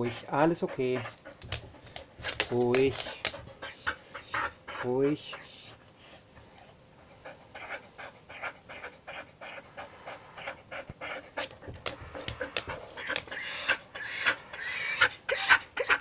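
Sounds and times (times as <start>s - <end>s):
dog panting rapidly: 0.0s - 5.8s, 7.0s - 16.0s.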